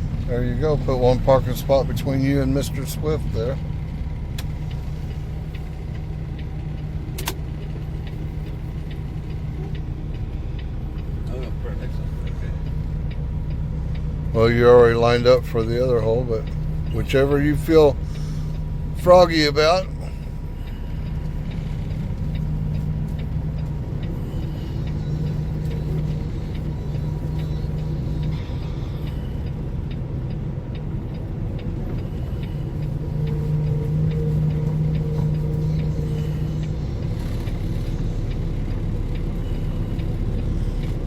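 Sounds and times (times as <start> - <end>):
diesel truck engine running: 0.0 - 41.0.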